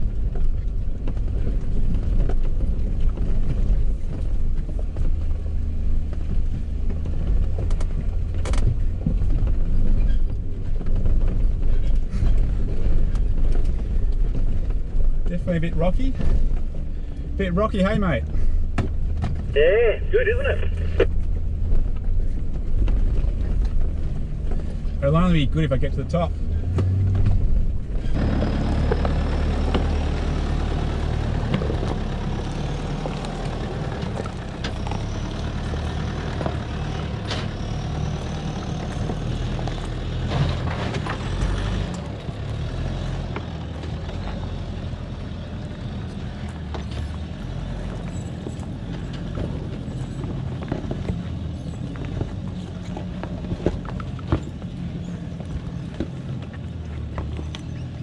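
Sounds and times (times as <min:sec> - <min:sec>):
vehicle engine under load: 0:00.0 - 0:58.0.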